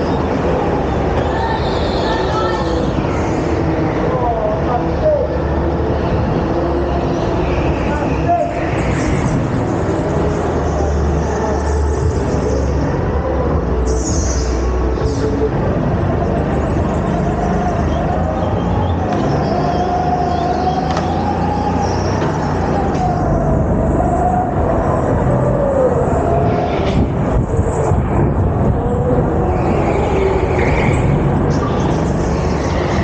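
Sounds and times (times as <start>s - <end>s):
low rumble of kart vibration: 0.0s - 33.0s.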